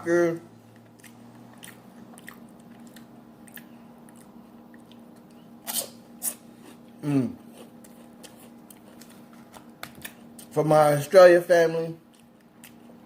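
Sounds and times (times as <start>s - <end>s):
close-miked chewing: 0.6s - 10.6s, 12.0s - 13.0s.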